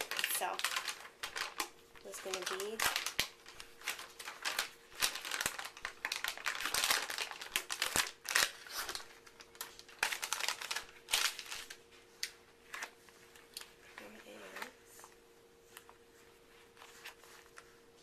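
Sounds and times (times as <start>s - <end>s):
crinkly wrapping rustling: 0.0s - 18.0s
faint steady hum: 0.0s - 18.0s.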